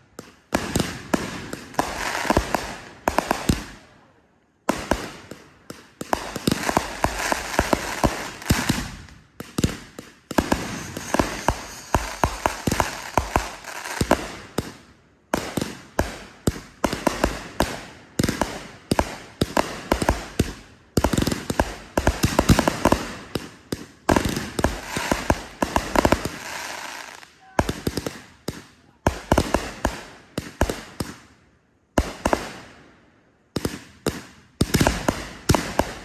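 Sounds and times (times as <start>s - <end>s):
fireworks crackling and popping: 0.0s - 3.9s, 4.6s - 31.4s, 32.0s - 32.8s, 33.5s - 36.0s.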